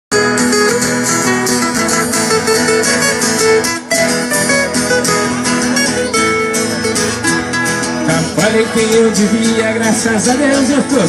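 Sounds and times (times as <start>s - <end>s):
guitars strummed and picked: 0.1s - 11.0s.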